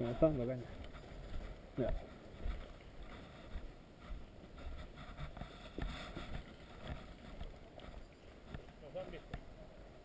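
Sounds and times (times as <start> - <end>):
faint clicks and scuffs: 0.7 - 9.5.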